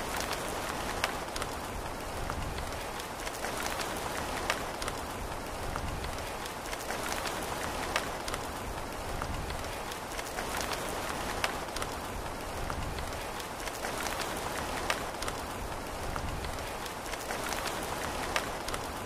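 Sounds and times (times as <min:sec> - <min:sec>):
raindrop ticks: 0:00.0 - 0:19.0
steady rain hiss: 0:00.0 - 0:19.0.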